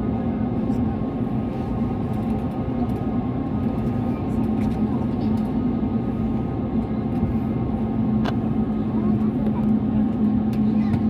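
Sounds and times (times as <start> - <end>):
airliner engines humming in cabin: 0.0 - 11.0.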